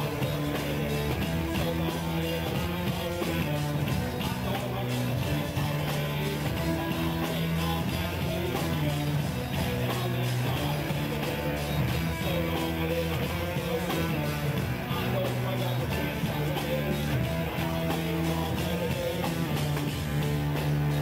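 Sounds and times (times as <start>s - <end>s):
drums: 0.0s - 21.0s
electric guitar: 0.0s - 21.0s
person singing: 0.0s - 21.0s.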